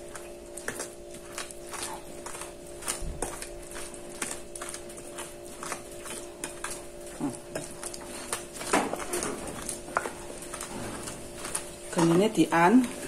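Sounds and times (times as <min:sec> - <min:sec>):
wooden pestle grinding on plate: 0:00.0 - 0:13.0.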